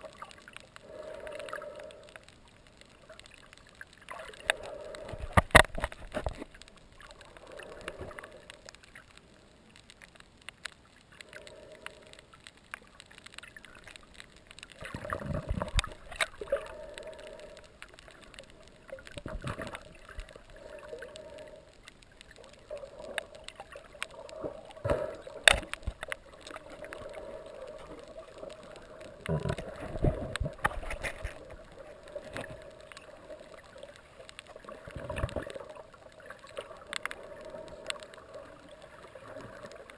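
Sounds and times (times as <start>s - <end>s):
faint steady hum: 0.0s - 39.9s
muffled underwater water surges: 0.0s - 39.9s
sharp underwater clicks: 0.0s - 39.9s.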